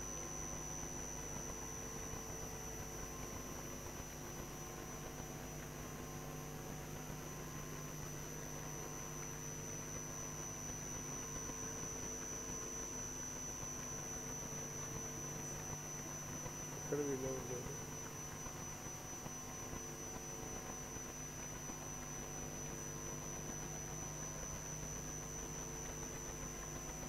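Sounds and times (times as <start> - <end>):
steady electrical hum: 0.0 - 27.0
thin high steady whine: 0.0 - 27.0.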